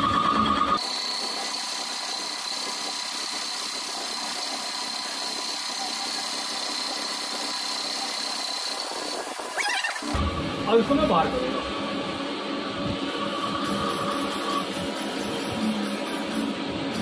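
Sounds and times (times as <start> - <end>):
lathe machining with high whine: 0.0 - 17.0.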